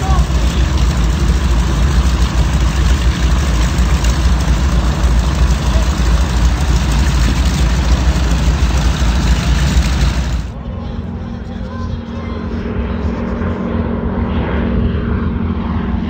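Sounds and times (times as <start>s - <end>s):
radial aircraft engines rumbling: 0.0s - 16.0s.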